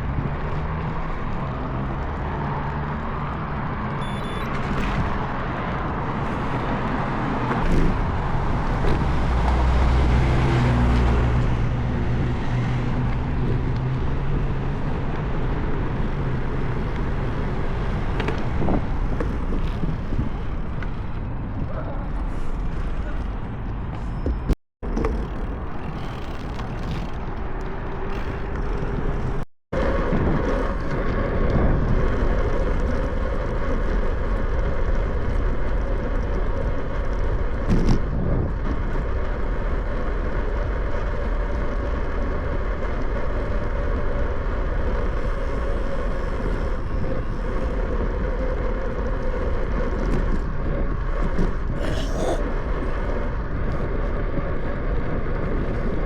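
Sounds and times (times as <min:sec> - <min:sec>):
bicycle road noise: 0:00.0 - 0:56.0
wind rush on microphone: 0:00.0 - 0:56.0.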